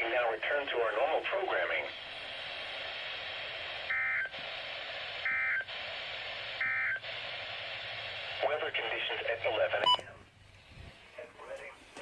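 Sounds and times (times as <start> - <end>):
radio static: 0.0 - 10.2, 11.0 - 12.0.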